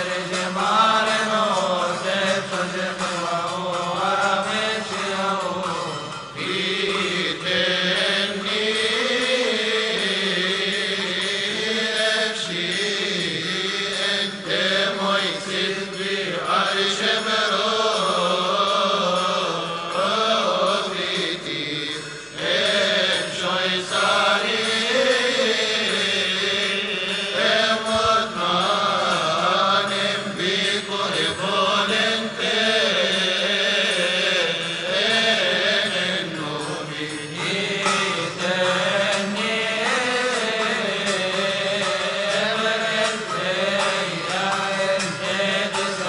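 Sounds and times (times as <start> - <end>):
men chanting a hymn: 0.0 - 46.0.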